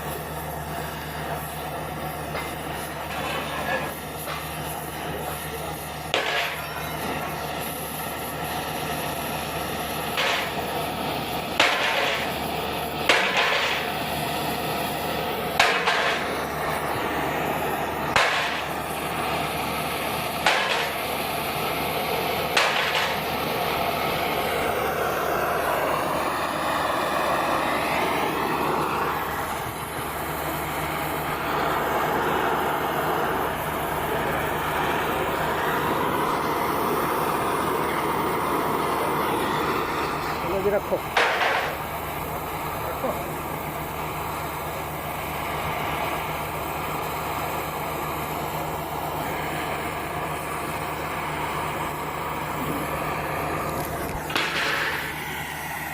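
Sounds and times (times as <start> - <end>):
machine humming drone: 0.0 - 55.9.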